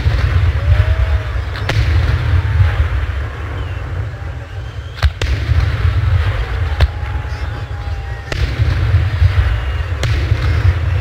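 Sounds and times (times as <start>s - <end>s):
fireworks bangs: 0.0s - 11.0s
steady low rumble: 0.0s - 11.0s.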